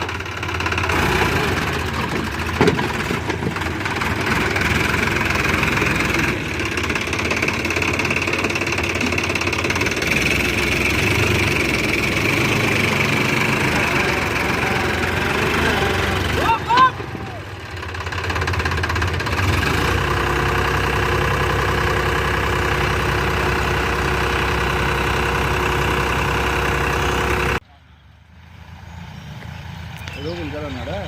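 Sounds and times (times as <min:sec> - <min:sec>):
heavy diesel engine running: 0:00.0 - 0:27.6.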